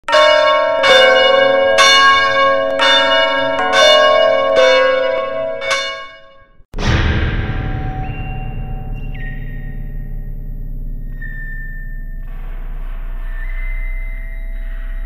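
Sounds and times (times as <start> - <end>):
bell ringing: 0.1 - 6.6, 7.4 - 15.0.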